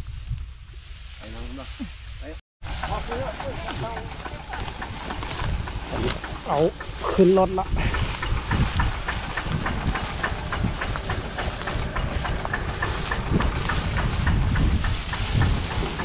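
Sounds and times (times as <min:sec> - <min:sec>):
threshing machine engine rumbling: 0:02.6 - 0:16.0
rapid even ticking: 0:02.8 - 0:16.0.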